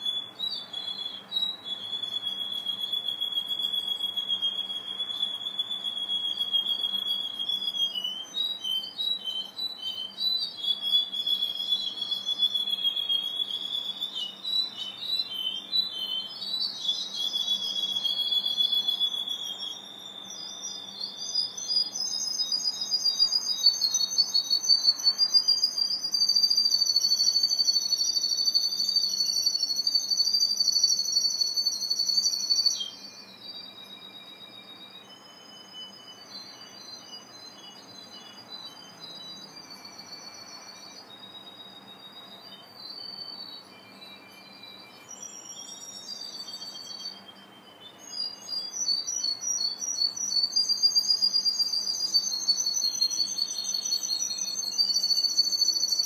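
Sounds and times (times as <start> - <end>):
canary trilling: 0.0 - 41.1, 44.4 - 56.0.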